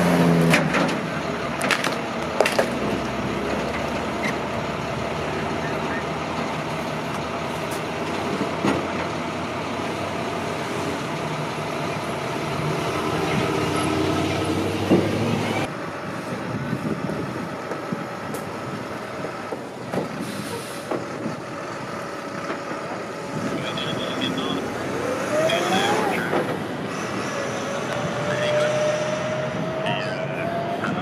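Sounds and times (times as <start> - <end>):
street traffic: 0.0 - 31.0
tow truck pulling away: 0.0 - 31.0
truck engines running: 0.0 - 31.0.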